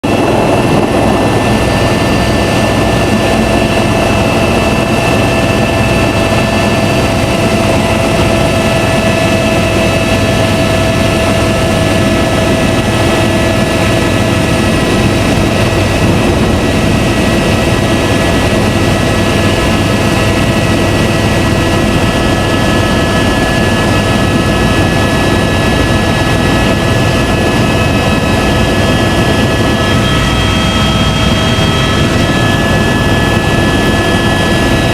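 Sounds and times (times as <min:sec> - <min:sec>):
helicopter rotor and engine noise: 0:00.0 - 0:34.9.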